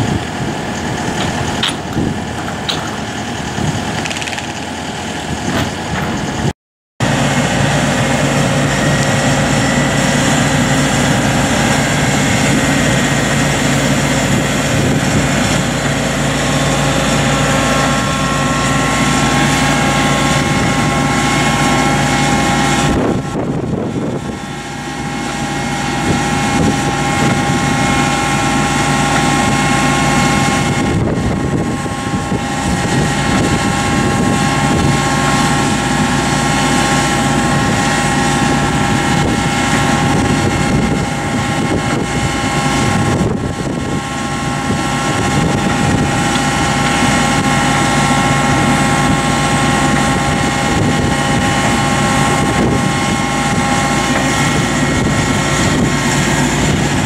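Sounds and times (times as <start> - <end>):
excavator diesel engine under load: 0.0 - 57.0
steady whining tones: 7.0 - 57.0.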